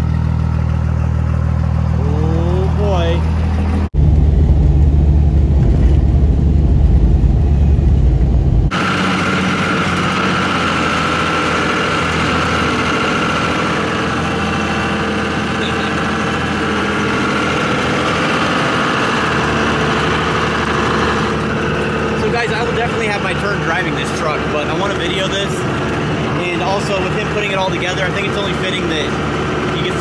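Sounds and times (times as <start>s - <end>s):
deep diesel engine rumble: 0.0s - 30.0s
engine and road drone in cab: 0.0s - 30.0s.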